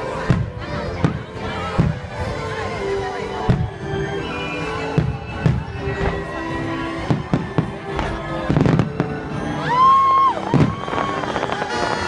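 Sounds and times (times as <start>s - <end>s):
fireworks bursting with sharp bangs: 0.0s - 2.6s, 3.3s - 9.6s, 10.4s - 12.0s
loud show music: 0.0s - 12.0s.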